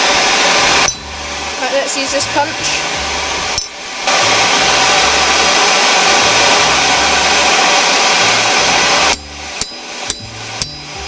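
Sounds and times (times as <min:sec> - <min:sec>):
forge air blower rushing: 0:00.0 - 0:11.0.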